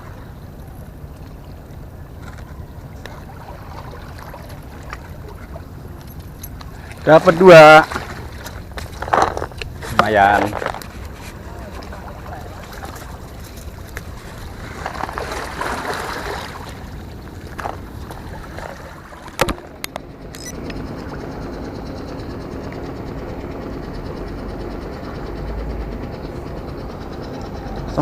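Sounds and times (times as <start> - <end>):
faint motor hum: 0.0 - 28.0.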